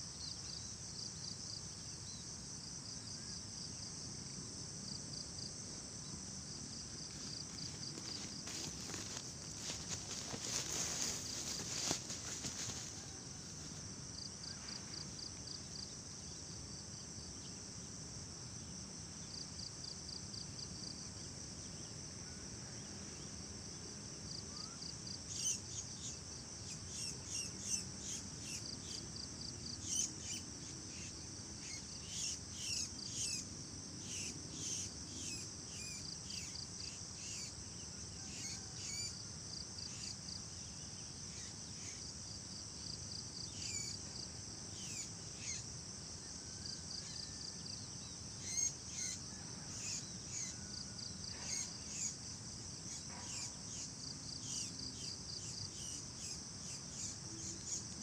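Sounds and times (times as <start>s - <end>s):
high-pitched insect trill: 0.0s - 17.5s, 24.3s - 58.0s.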